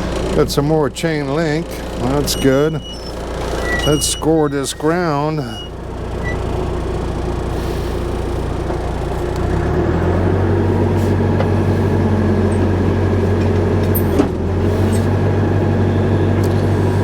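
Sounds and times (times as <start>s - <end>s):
tractor engine revving: 0.0s - 17.0s.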